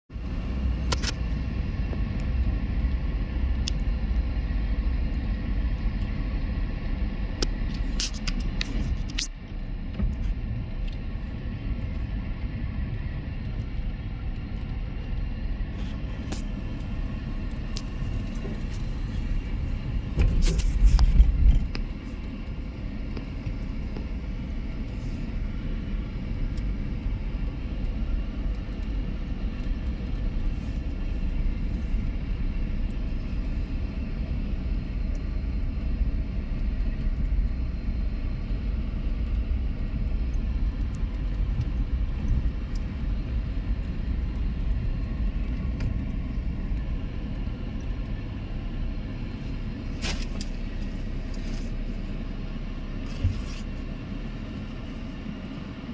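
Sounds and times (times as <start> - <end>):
vehicle engine rumbling: 0.0 - 55.9.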